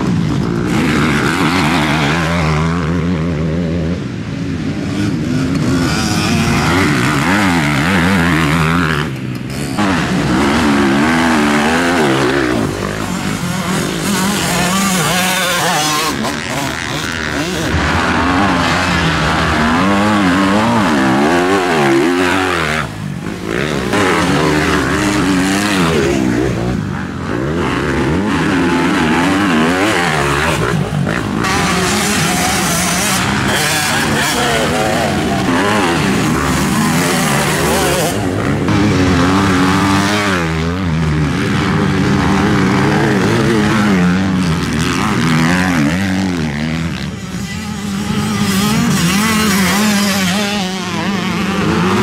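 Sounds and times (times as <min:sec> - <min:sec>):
motocross bike engines revving: 0:00.0 - 0:52.0.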